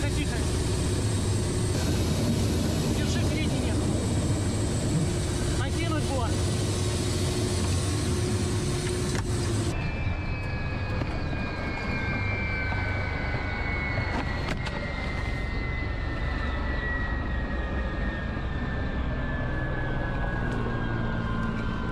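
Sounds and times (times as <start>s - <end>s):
helicopter rotor drone: 0.0s - 21.9s
high turbine whine: 0.0s - 21.9s.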